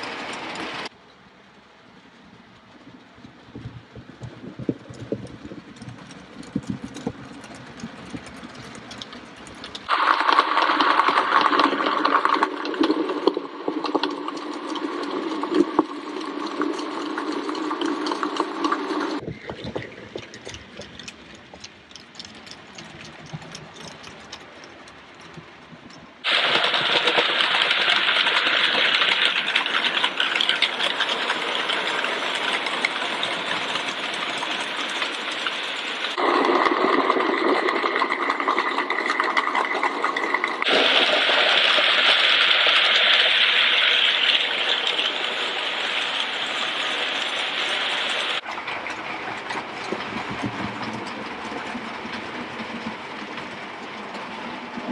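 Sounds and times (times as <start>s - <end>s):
model trains running on track: 0.0s - 54.9s.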